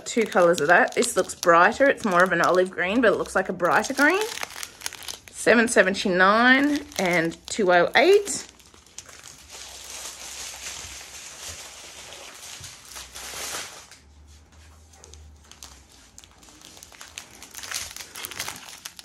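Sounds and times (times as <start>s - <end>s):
plastic packets crinkling: 0.0s - 14.0s, 15.0s - 19.0s.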